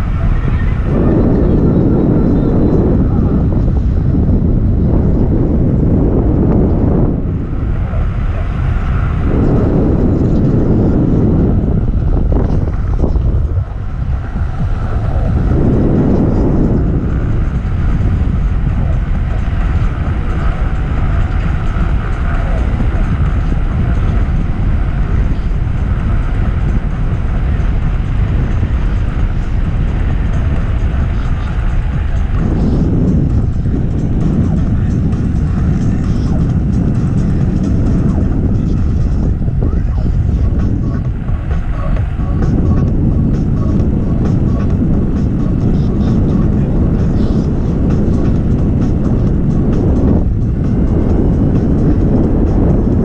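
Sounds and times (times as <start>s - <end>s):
skateboard wheels rumbling: 0.0s - 53.0s
wind on microphone: 0.0s - 53.0s.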